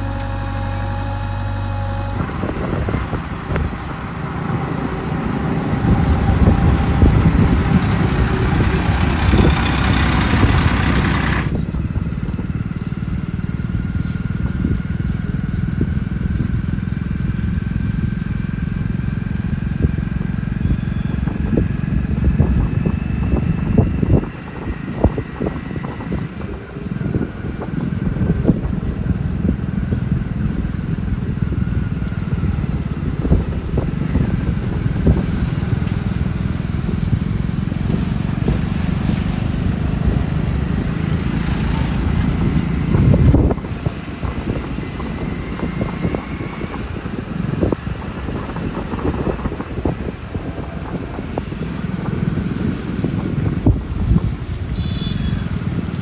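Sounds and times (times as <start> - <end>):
diesel engine rumbling: 0.0 - 56.0
wind buffeting microphone: 0.0 - 56.0.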